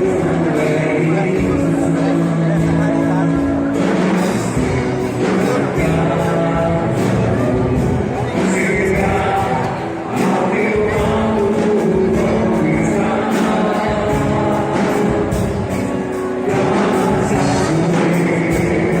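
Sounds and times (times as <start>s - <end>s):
song with singing and steady beat: 0.0s - 19.0s.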